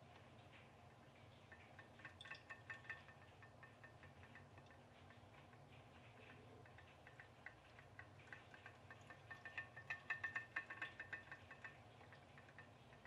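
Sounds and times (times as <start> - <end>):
pop-pop boat ticking: 0.9 - 13.0.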